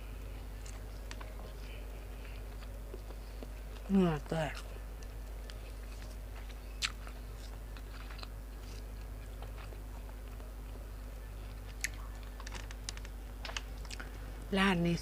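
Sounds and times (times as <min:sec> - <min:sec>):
steady low hum: 0:00.0 - 0:15.0
person chewing food: 0:00.2 - 0:14.4.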